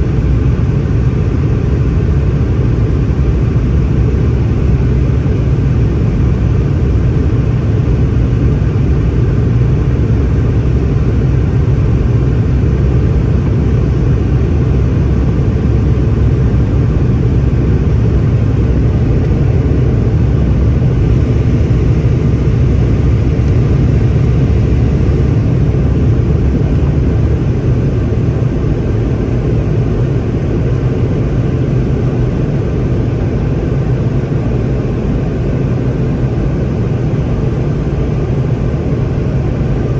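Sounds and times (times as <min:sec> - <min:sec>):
faint high engine whine: 0:00.0 - 0:39.9
jet engines rumbling: 0:00.0 - 0:39.9.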